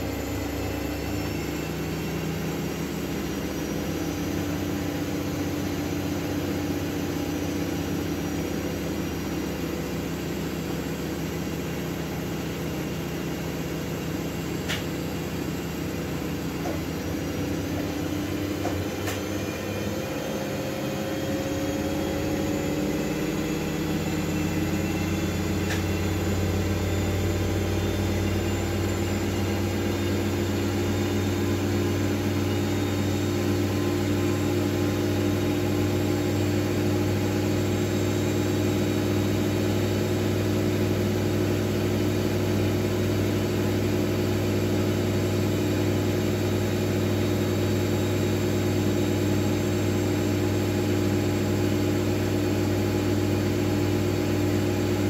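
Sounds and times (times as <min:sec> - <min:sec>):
motor hum with whine: 0:00.0 - 0:55.0.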